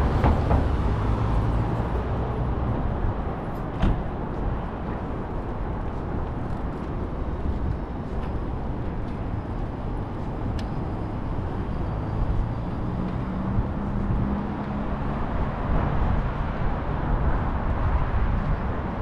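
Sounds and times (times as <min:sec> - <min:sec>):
passing vehicles: 0:00.0 - 0:19.0.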